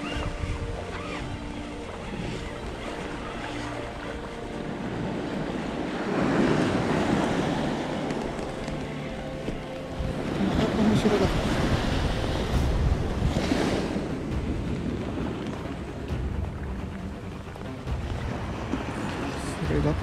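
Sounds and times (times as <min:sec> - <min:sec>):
small surf waves washing up: 0:00.0 - 0:20.0.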